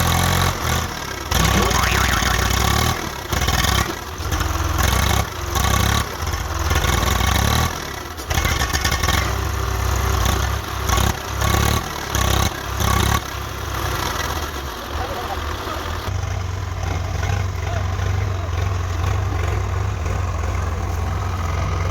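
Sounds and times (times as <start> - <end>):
tractor diesel engine revving: 0.0 - 21.9.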